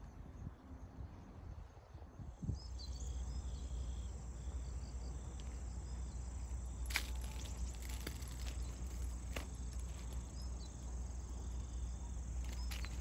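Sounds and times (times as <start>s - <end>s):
insects trilling and chirping: 0.4s - 13.0s.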